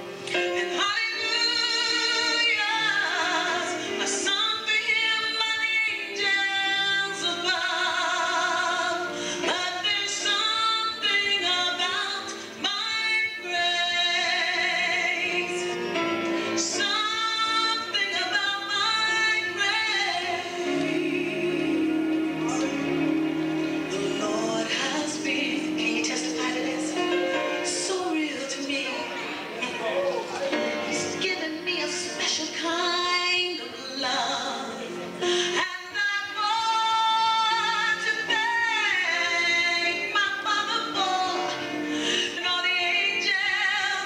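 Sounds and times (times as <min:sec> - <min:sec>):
woman singing worship song: 0:00.4 - 0:15.8, 0:16.6 - 0:22.0, 0:23.9 - 0:29.1, 0:30.8 - 0:44.0.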